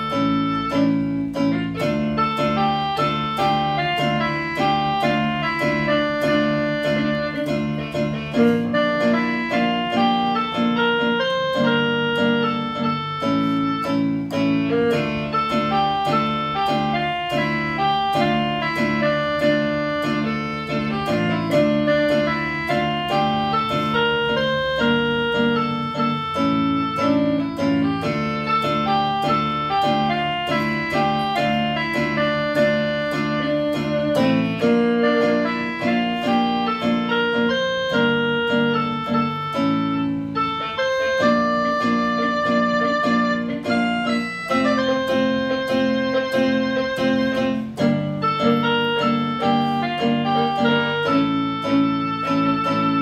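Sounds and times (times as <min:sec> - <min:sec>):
electronic keyboard piano melody: 0:00.0 - 0:53.0.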